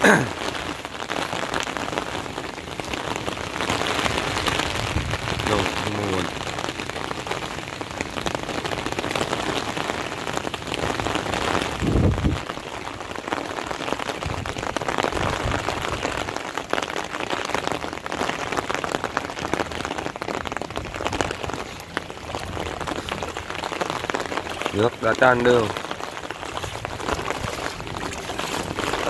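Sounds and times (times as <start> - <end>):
rain pattering on water: 0.0 - 29.0.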